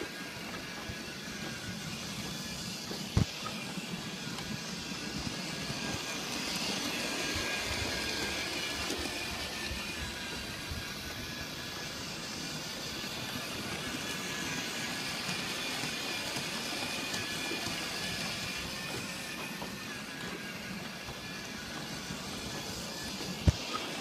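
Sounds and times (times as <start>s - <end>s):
model train wheels rolling on rails: 0.0s - 24.0s.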